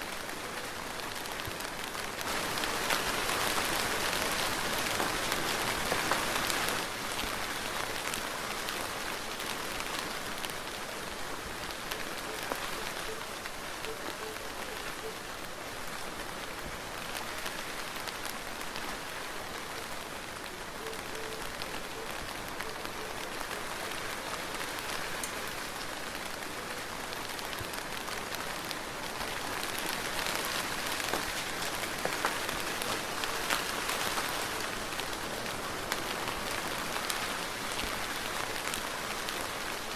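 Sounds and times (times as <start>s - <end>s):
soft steady rain: 0.0s - 39.9s.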